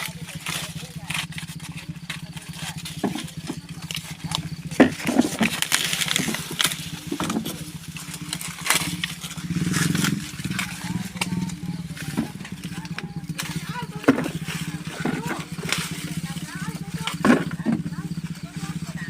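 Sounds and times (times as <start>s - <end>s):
knocks and rustles: 0.0s - 19.0s
small engine humming: 0.0s - 19.0s.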